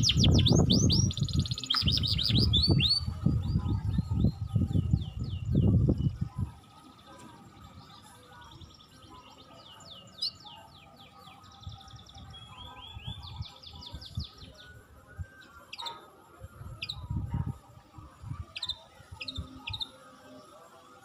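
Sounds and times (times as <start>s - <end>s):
songbirds trilling: 0.0s - 21.0s.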